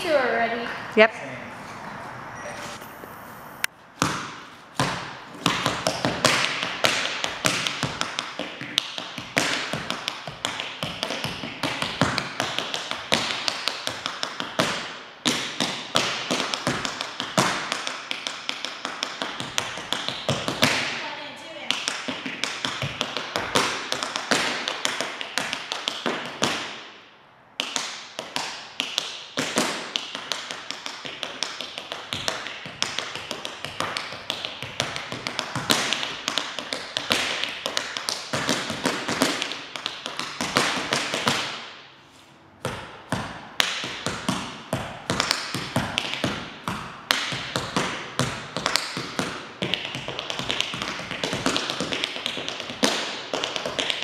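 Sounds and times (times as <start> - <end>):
tap shoes on hard floor: 4.0 - 21.0, 21.7 - 26.8, 27.6 - 41.6, 42.7 - 54.0.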